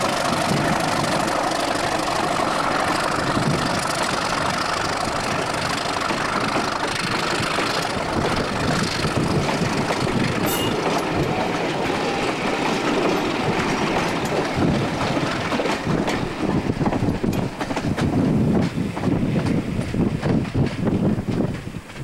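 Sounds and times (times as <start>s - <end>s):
diesel locomotive engine running: 0.0s - 22.0s
train wheels clattering over rail joints: 0.0s - 22.0s.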